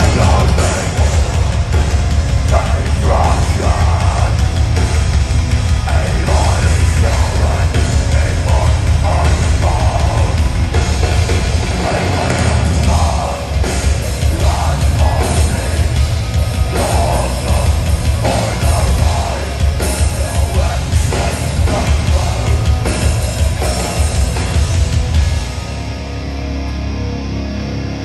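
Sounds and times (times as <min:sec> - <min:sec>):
drum kit: 0:00.0 - 0:26.8
distorted electric guitars: 0:00.0 - 0:28.0.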